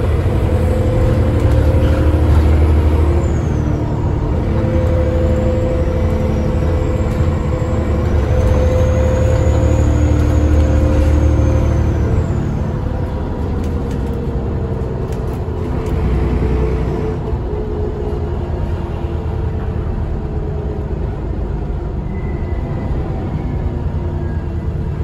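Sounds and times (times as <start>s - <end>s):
bus engine drone: 0.0s - 25.0s
road rumble: 0.0s - 25.0s.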